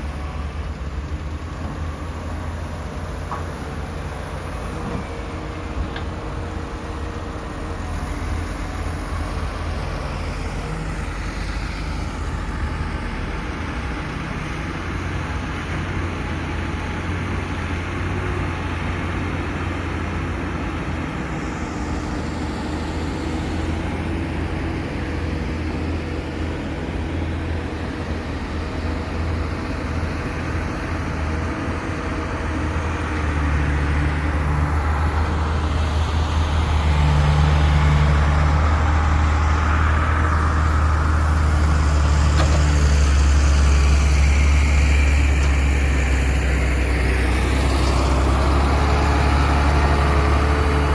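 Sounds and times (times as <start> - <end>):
excavator diesel engine drone: 0.0 - 50.9.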